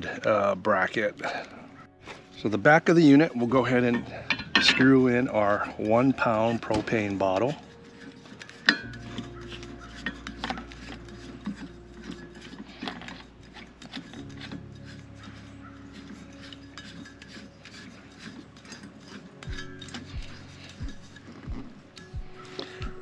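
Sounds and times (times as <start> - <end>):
faint background music: 0.0 - 23.0
gas cylinder threads scraping: 0.0 - 23.0
bottle rubbing against metal unit: 0.7 - 23.0.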